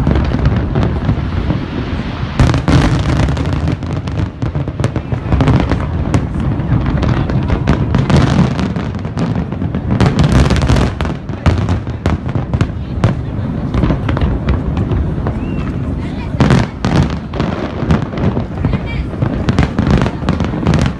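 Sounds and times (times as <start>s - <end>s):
fireworks sharp cracks: 0.0s - 20.9s
low rumble of fireworks: 0.0s - 20.9s.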